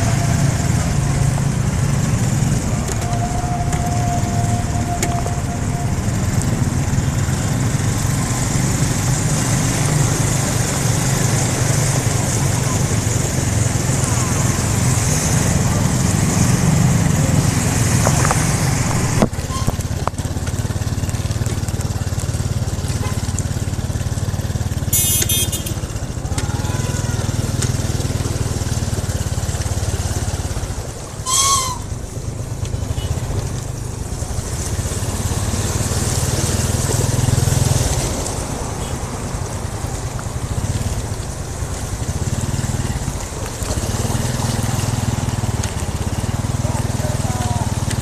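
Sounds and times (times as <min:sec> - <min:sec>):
motorcycle engine running: 0:00.0 - 0:38.2, 0:38.8 - 0:48.0.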